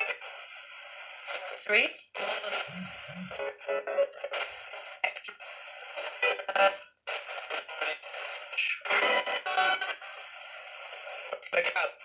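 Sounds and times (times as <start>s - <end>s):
choppy radio fragments from small speaker: 0.0s - 12.0s.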